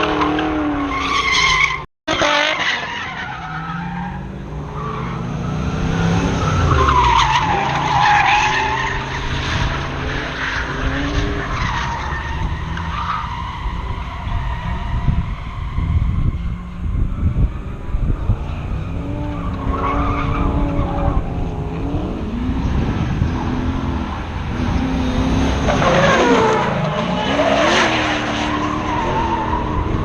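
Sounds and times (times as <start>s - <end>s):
tires squealing: 0.0s - 30.0s
car engine revving: 2.1s - 30.0s.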